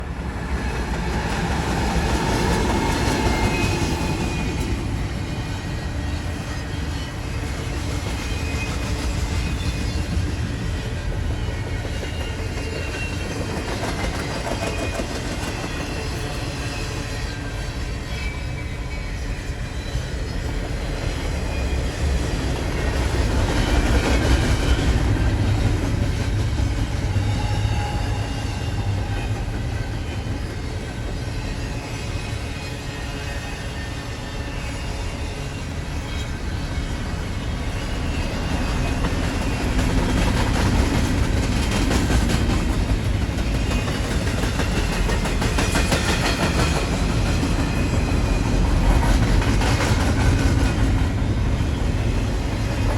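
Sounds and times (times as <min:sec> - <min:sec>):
freight train wheels rumbling on rail: 0:00.0 - 0:52.9.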